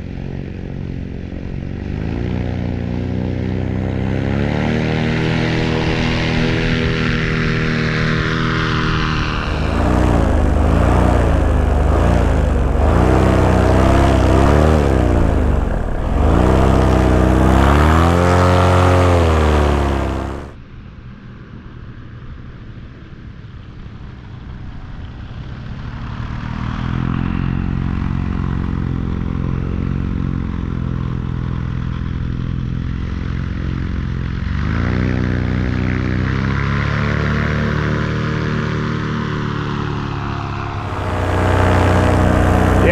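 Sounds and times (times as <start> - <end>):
paramotor engine and propeller: 0.0 - 20.6, 23.2 - 42.9.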